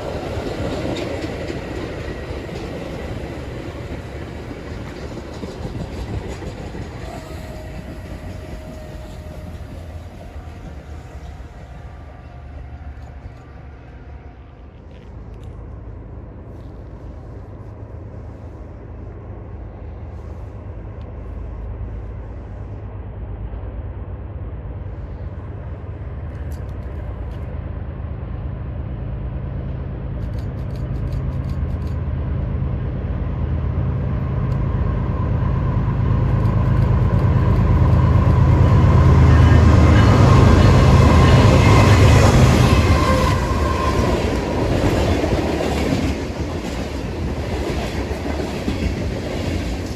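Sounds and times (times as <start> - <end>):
diesel train passing: 0.0 - 49.9.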